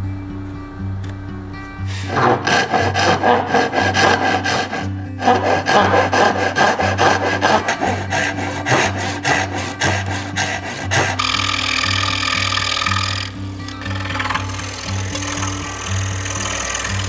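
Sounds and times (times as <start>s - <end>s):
hand saw cutting wood: 1.9s - 17.0s
scroll saw running: 1.9s - 17.0s.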